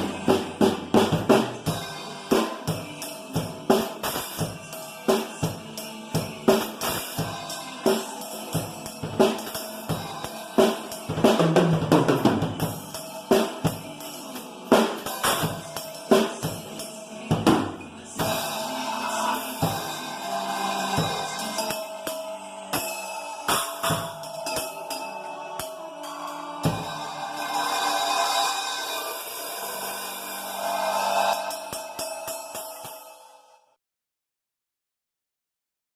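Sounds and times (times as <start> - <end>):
drum kit playing a beat: 0.0 - 33.2
backing track music: 0.0 - 33.3.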